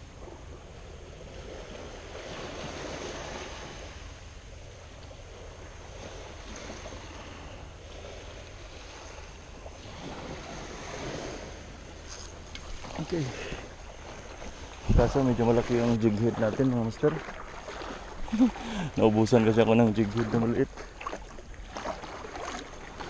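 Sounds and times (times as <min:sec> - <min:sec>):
sea waves washing in: 0:00.0 - 0:23.0
wind: 0:00.0 - 0:23.0.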